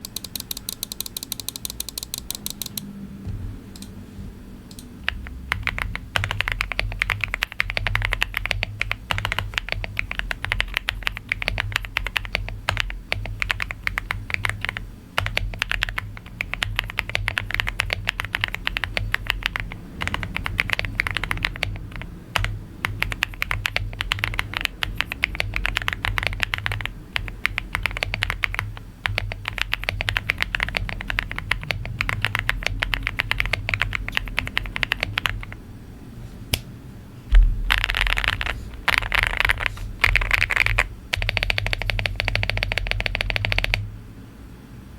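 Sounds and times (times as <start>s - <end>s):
mechanical keyboard typing: 0.0s - 2.9s, 4.7s - 35.6s, 37.7s - 43.9s.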